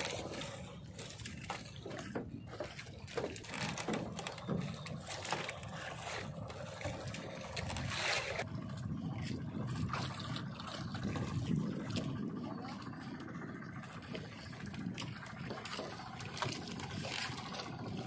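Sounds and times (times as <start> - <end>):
water splashing against boat: 0.0 - 18.0.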